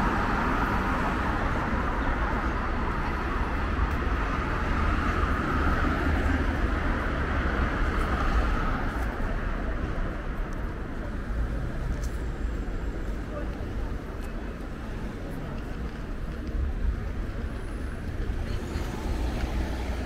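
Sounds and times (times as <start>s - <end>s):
passing vehicles: 0.0s - 20.0s.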